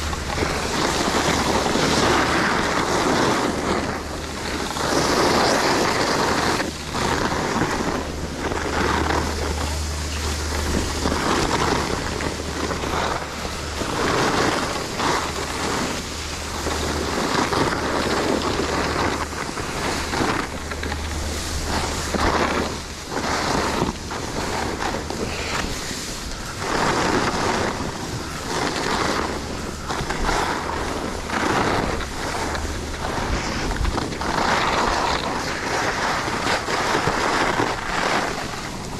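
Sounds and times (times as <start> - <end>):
skis scraping over packed snow: 0.0 - 38.9
wind rushing over microphone: 0.0 - 38.9.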